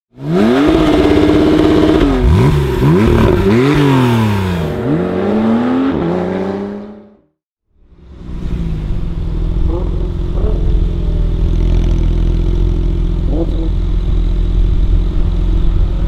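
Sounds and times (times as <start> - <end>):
car engine revving: 0.1 - 7.3, 7.9 - 16.0.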